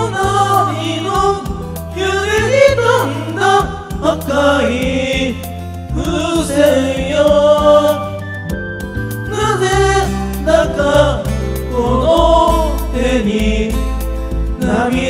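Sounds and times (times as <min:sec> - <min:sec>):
karaoke backing track: 0:00.0 - 0:15.0
people singing into microphones: 0:00.0 - 0:15.0.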